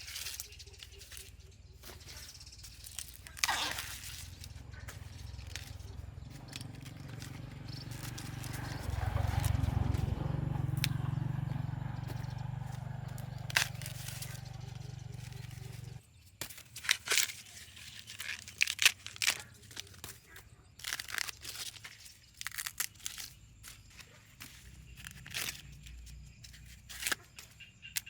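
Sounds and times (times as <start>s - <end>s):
dry corn husks snapping and tearing: 0.0s - 28.0s.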